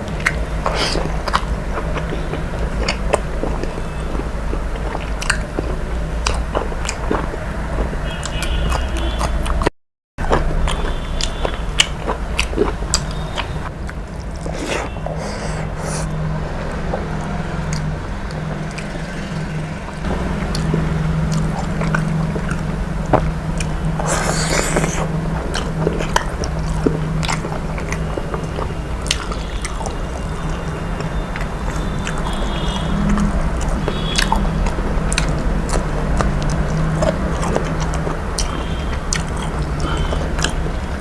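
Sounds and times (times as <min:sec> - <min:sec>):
mouth clicks and smacks: 0:00.0 - 0:19.0, 0:20.1 - 0:41.0
person chewing: 0:00.0 - 0:19.0, 0:20.0 - 0:41.0.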